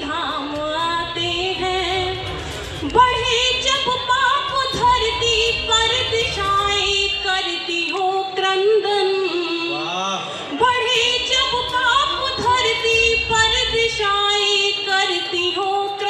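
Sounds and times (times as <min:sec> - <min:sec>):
woman singing: 0:00.0 - 0:09.7, 0:10.6 - 0:16.0.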